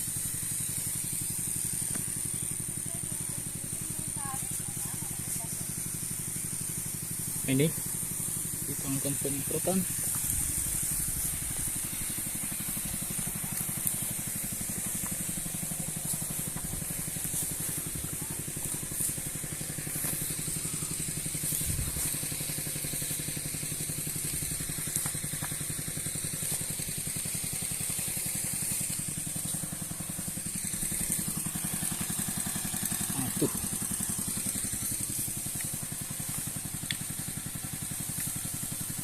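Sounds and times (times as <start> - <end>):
small petrol engine running: 0.0 - 39.0
steady high hiss: 0.0 - 39.0.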